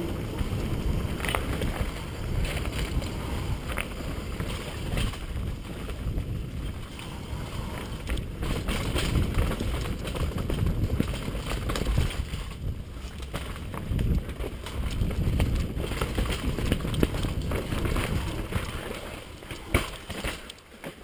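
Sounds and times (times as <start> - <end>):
wind buffeting microphone: 0.0 - 20.3
bike rattling over roots and rocks: 0.0 - 21.0.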